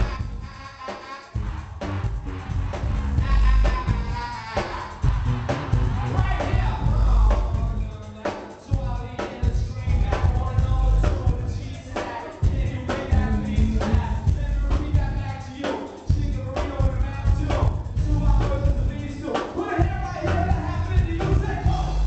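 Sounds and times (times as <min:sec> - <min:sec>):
person rapping: 0:00.0 - 0:01.9, 0:02.8 - 0:22.0
bass-heavy hip-hop beat: 0:00.0 - 0:22.0.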